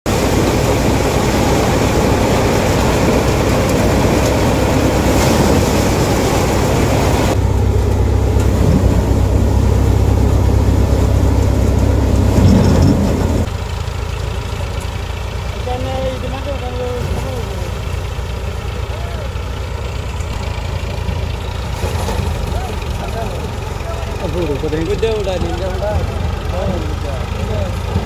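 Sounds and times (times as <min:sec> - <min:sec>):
thresher drum clattering: 0:00.1 - 0:13.5, 0:18.5 - 0:28.0
low machine hum: 0:00.1 - 0:28.0.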